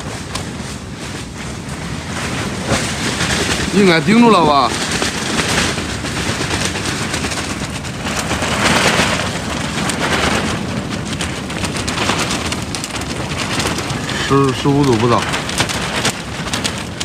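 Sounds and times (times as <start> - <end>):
plastic film crackling and flapping: 0.0 - 17.0
strong wind gusting: 0.0 - 17.0.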